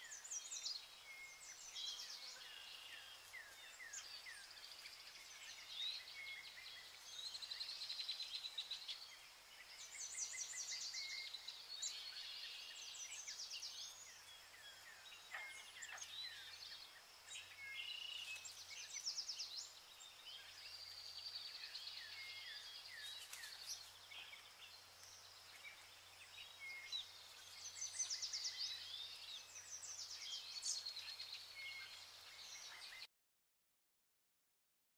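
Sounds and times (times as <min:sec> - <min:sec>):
small birds chirping and trilling: 0:00.0 - 0:33.1.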